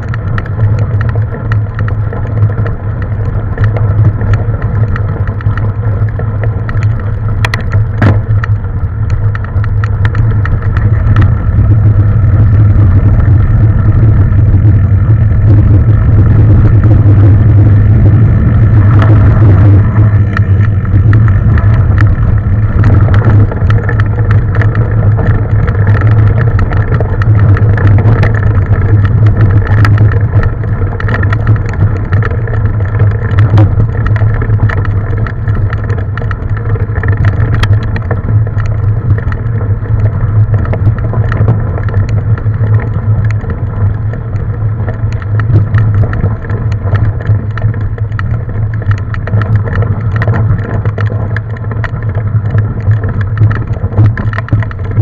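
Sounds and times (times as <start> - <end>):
bike rattling clicks: 0.0 - 55.0
mountain bike riding drone: 0.0 - 55.0.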